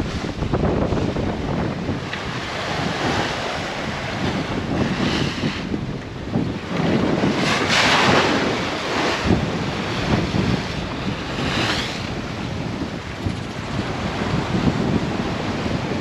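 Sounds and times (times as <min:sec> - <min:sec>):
waves rushing along hull: 0:00.0 - 0:16.0
wind buffeting microphone: 0:00.0 - 0:16.0.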